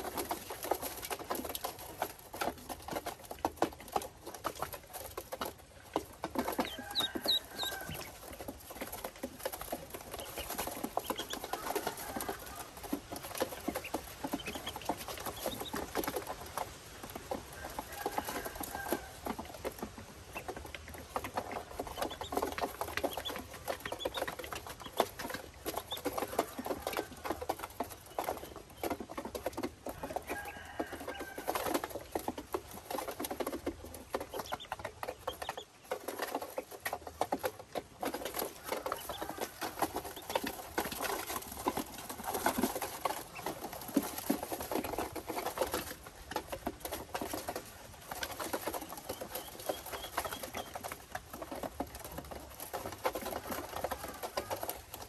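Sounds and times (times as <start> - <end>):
pecking and scrabbling clicks: 0.0 - 55.0.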